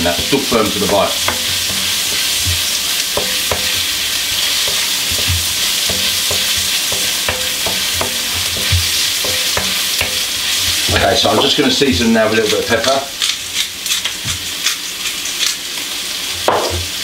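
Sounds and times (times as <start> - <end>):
spatula knocking and scraping wok: 0.0 - 14.7, 16.4 - 16.9
vegetables sizzling in a wok: 0.0 - 17.0.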